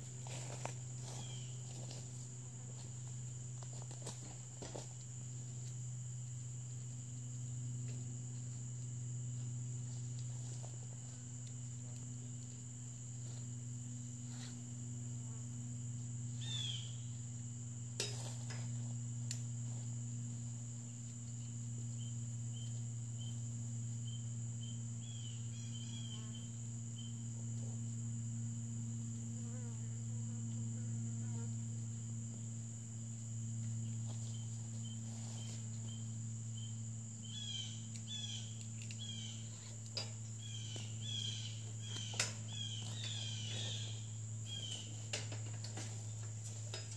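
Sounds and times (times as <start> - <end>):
insect chorus: 0.0 - 46.9.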